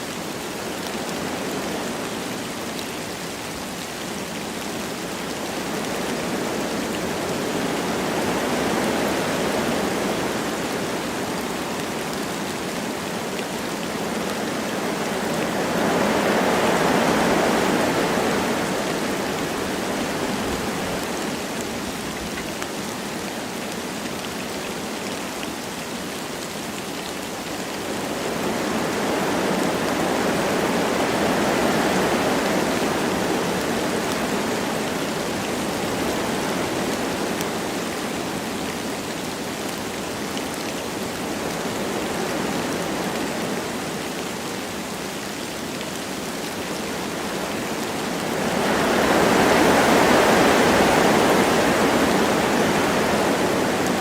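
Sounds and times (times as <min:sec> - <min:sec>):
light rain: 0:00.0 - 0:54.0
wind through trees: 0:00.0 - 0:54.0.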